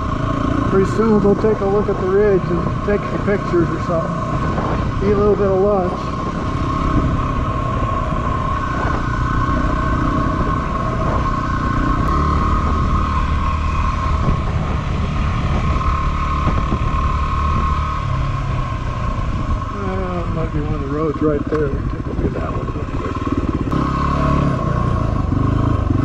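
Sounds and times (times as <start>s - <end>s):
low road rumble: 0.0s - 26.0s
motorcycle engine cruising: 0.0s - 26.0s.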